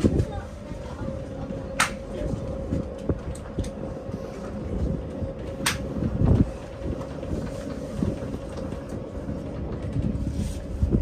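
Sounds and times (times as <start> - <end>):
low train rumble: 0.0 - 11.0
train motor hum: 0.0 - 11.0.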